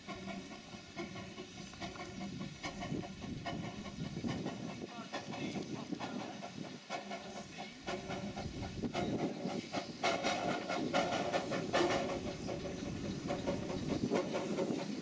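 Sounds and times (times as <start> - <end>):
steam hissing: 0.0 - 15.0
wheels clanking over rail joints: 0.0 - 15.0.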